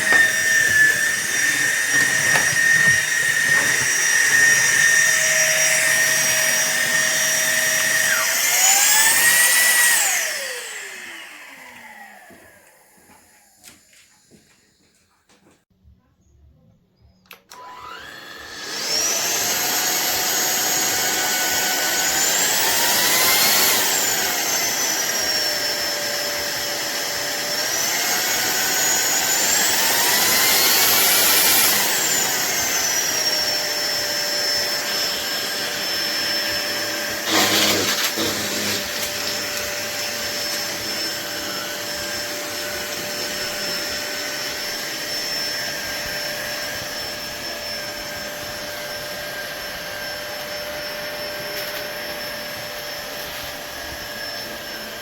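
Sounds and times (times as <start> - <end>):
vacuum cleaner motor whine: 0.0 - 15.0, 17.3 - 55.0.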